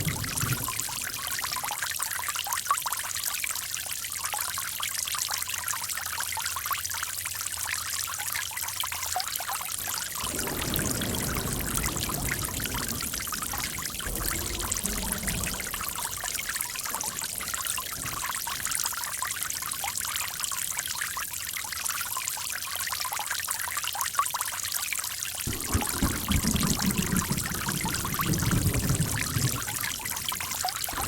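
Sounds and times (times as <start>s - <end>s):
running water trickling and splashing: 0.0s - 31.0s.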